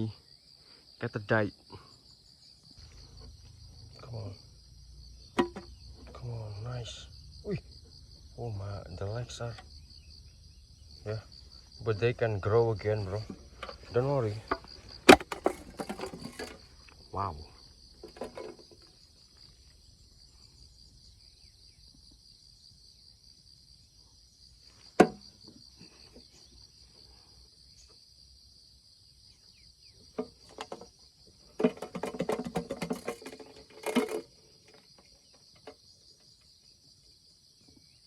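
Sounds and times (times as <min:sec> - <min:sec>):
insect chorus: 0:00.0 - 0:38.0.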